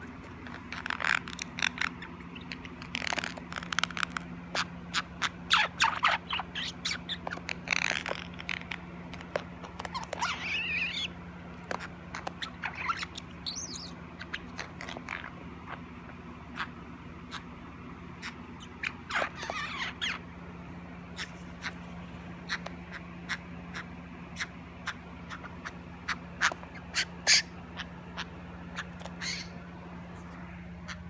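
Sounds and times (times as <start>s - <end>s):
small pet animal squeaking and chirping: 0.0s - 31.0s
steady low hum: 0.0s - 31.0s.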